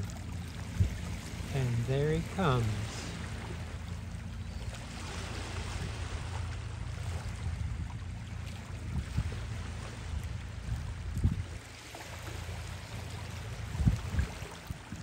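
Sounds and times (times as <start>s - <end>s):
water lapping against rocky shore: 0.0s - 15.0s
wind rumble on microphone: 0.0s - 15.0s.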